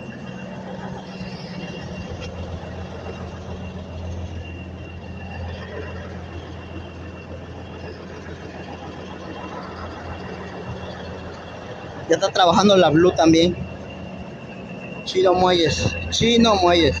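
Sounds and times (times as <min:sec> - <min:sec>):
faint thin whine: 0:00.0 - 0:17.0.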